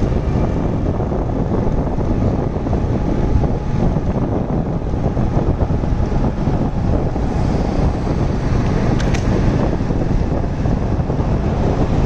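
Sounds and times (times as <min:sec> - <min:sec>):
motorcycle running: 0:00.0 - 0:12.0
tyre noise on wet road: 0:00.0 - 0:12.0
wind buffeting microphone: 0:00.0 - 0:12.0.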